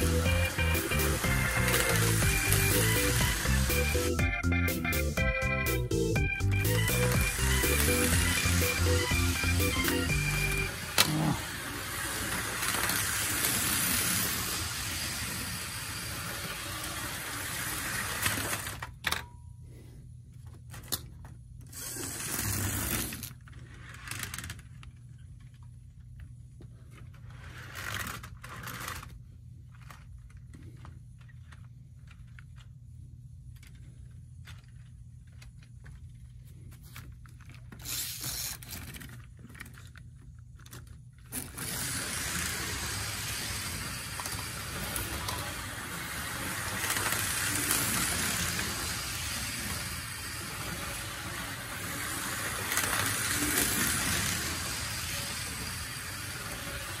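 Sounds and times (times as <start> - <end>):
plastic train cars clicking: 0.0 - 4.1, 6.7 - 19.3, 20.7 - 32.8, 33.5 - 57.0
toy train motor whirring: 0.0 - 5.1, 5.9 - 19.1, 21.6 - 25.7, 26.8 - 32.7, 33.6 - 57.0.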